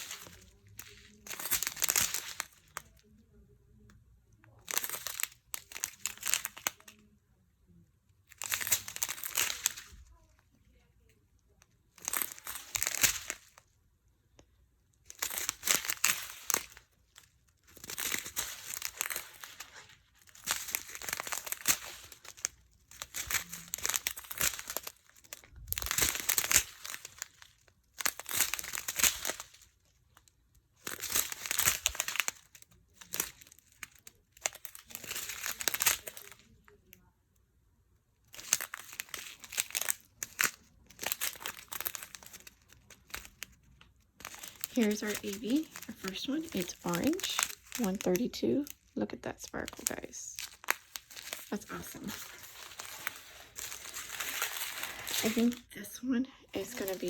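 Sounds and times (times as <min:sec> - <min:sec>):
plastic bags crinkling: 0:00.0 - 0:37.1, 0:38.2 - 0:57.0.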